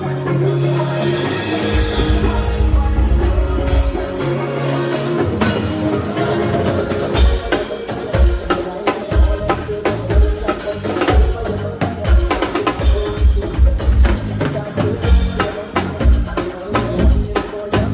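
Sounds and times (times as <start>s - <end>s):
bass: 0.0s - 17.9s
drum kit: 0.0s - 17.9s.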